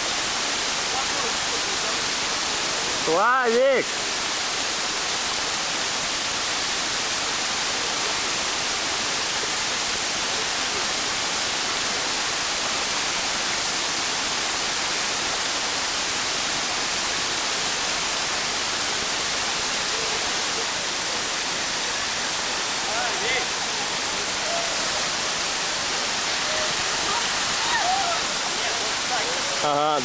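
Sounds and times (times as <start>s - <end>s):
small waterfall splashing: 0.0s - 30.0s.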